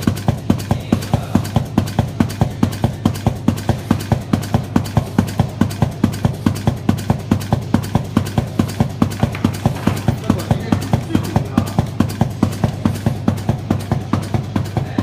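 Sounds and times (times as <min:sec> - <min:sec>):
pleating knife striking rhythmically: 0:00.0 - 0:15.0.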